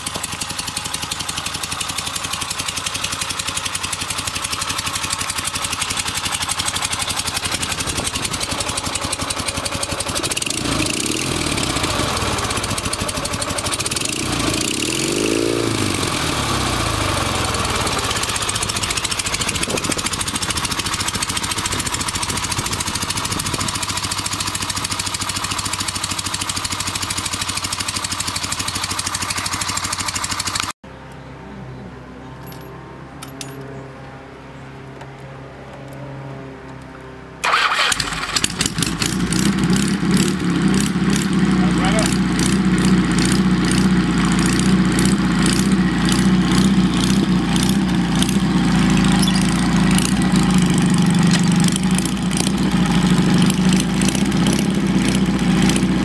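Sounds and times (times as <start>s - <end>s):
motorcycle engine running: 0.0s - 30.8s, 37.4s - 56.0s.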